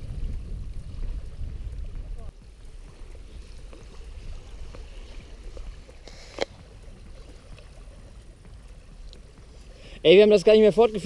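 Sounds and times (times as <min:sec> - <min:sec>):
water lapping at shore: 0:00.0 - 0:11.0
wind rumble on microphone: 0:00.0 - 0:11.0.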